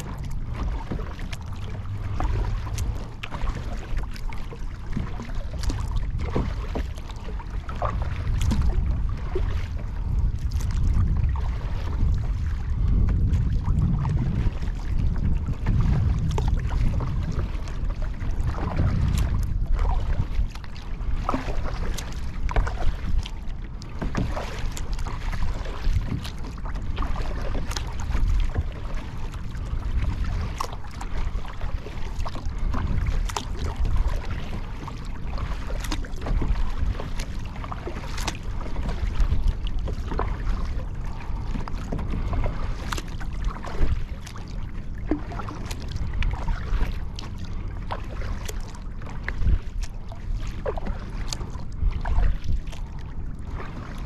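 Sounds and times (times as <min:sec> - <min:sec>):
water splashing around kayak: 0:00.0 - 0:54.0
wind rumble on microphone: 0:00.0 - 0:54.0.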